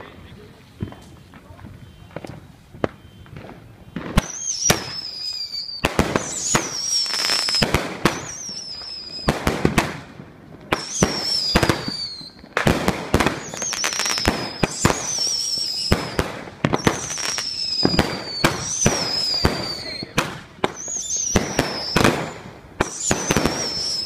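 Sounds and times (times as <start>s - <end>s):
fireworks cracking and popping: 0.0s - 24.0s
fireworks whistling: 0.0s - 24.0s.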